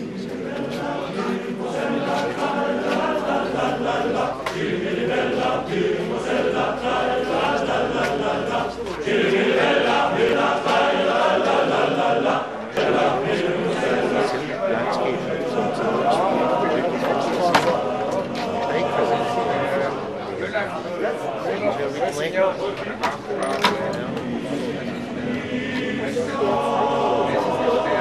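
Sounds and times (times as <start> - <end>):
choir singing held notes: 0.0 - 22.1, 23.6 - 28.0.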